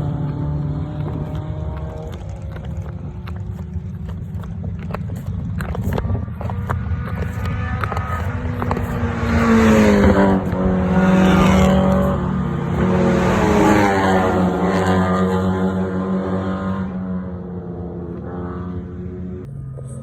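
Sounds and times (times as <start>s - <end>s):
race car engines at speed: 0.0s - 20.0s.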